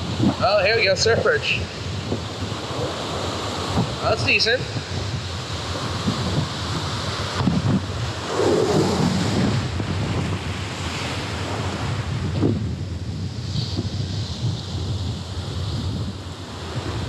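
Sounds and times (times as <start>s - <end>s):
surf breaking on rocky shore: 0.0s - 17.0s
wind buffeting microphone: 0.0s - 17.0s.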